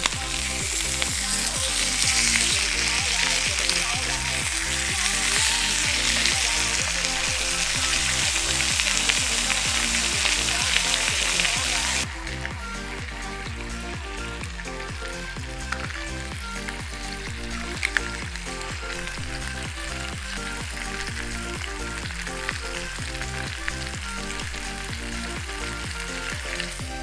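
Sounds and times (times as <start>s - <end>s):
bacon and eggs sizzling in pan: 0.0s - 27.0s.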